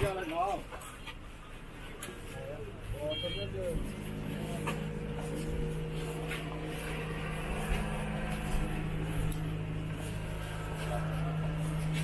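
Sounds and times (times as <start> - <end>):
busy street clatter: 0.0 - 12.0
engine humming: 0.0 - 12.0.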